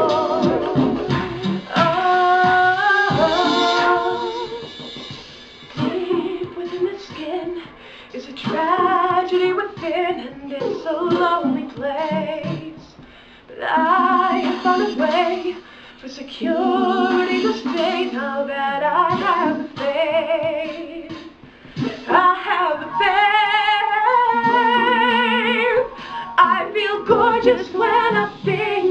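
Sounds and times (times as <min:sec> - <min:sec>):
harmony vocal: 0:00.0 - 0:04.7, 0:05.8 - 0:28.9
woman singing: 0:00.0 - 0:04.7, 0:05.8 - 0:28.9.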